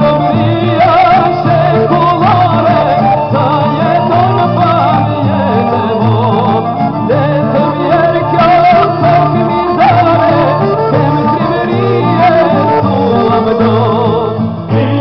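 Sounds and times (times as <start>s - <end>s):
person singing ornamented melody: 0.0s - 15.0s
plucked strings: 0.0s - 15.0s.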